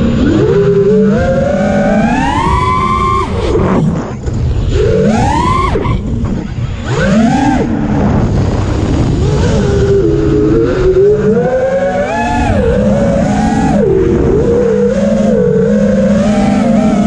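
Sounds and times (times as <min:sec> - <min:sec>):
quadcopter motors whining: 0:00.0 - 0:17.0
wind rumble on microphone: 0:00.0 - 0:17.0.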